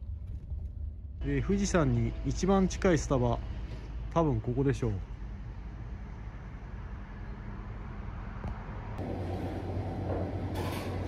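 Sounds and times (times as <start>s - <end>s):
road traffic rumble: 1.2s - 11.0s.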